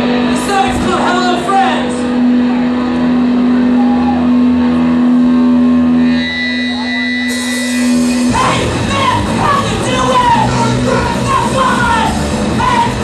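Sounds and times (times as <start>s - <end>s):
electric guitar low note: 0.0s - 13.0s
higher steady guitar tone: 0.0s - 13.0s.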